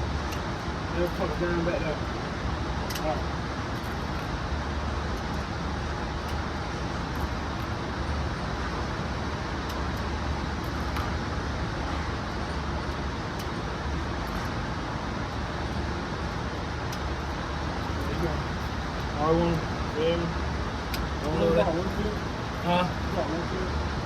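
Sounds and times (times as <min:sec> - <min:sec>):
low rumbling hum: 0:00.0 - 0:24.0.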